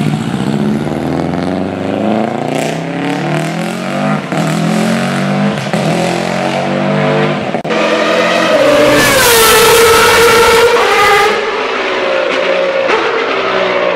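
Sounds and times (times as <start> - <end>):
rally car engines at full throttle: 0.0 - 13.9.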